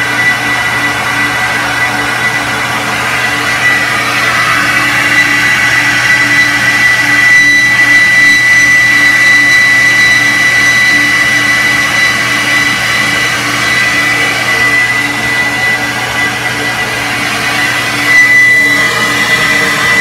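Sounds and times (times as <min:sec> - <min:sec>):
vacuum motors rushing air with whine: 0:00.0 - 0:20.0.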